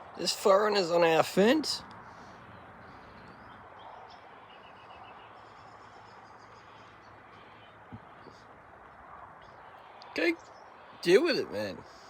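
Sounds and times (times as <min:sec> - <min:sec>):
outdoor background noise: 0:00.0 - 0:12.0
faint bird calls: 0:01.8 - 0:12.0.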